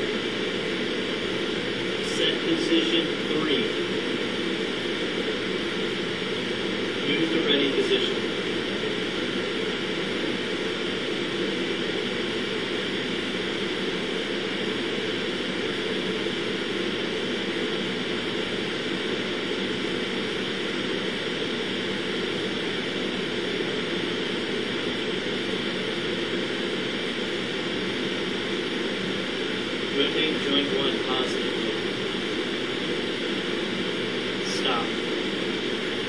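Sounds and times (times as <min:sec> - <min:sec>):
steady background hiss and hum: 0:00.0 - 0:36.0.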